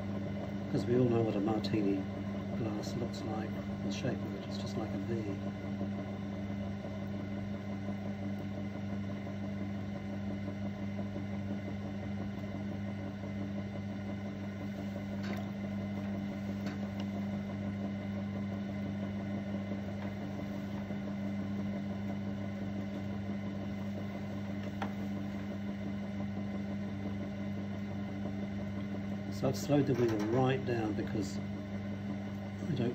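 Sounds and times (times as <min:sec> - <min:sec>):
potter's wheel motor hum: 0:00.0 - 0:32.9.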